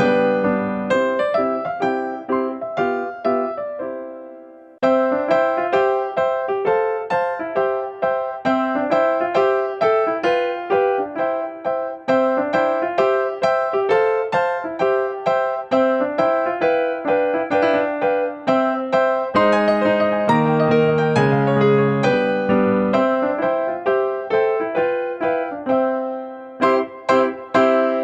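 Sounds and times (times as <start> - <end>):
light piano tune: 0.0 - 28.0.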